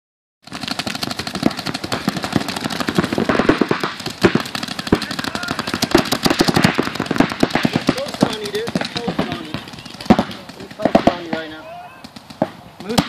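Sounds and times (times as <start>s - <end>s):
paintball guns firing rapidly: 0.4s - 13.0s.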